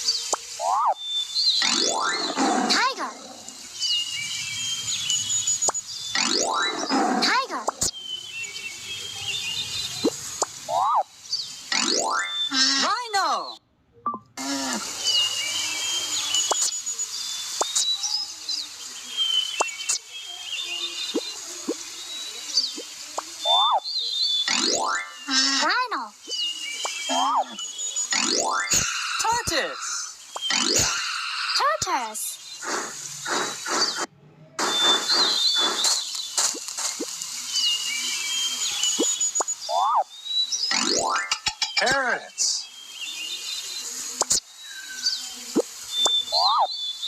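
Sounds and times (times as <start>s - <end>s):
birds chirping and whistling: 0.0s - 13.6s, 14.5s - 47.0s.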